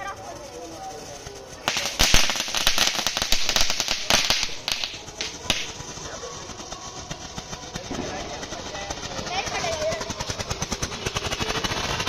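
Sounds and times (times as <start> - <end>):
ground fireworks crackling: 0.0 - 12.0.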